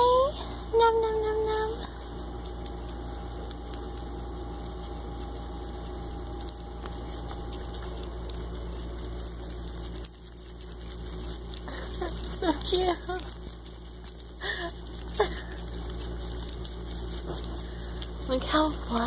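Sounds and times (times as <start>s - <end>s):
rabbits chewing greens: 0.0s - 19.0s
steady low hum: 0.0s - 19.0s.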